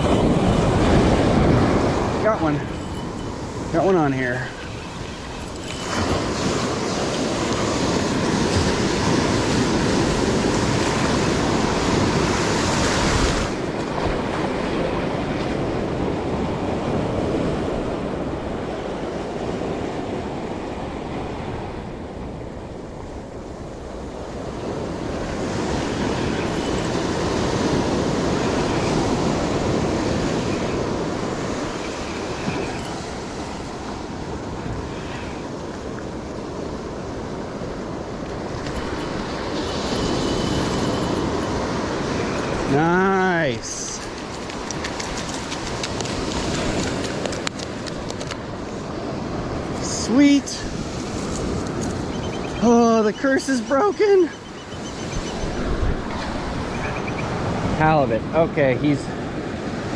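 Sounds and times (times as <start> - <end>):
ocean surf over rocks: 0.0 - 59.9
wind rushing on microphone: 0.0 - 59.9.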